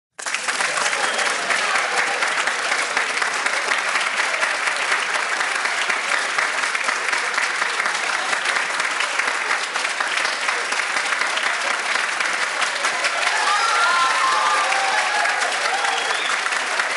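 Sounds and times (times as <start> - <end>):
large audience applauding: 0.1 - 16.9.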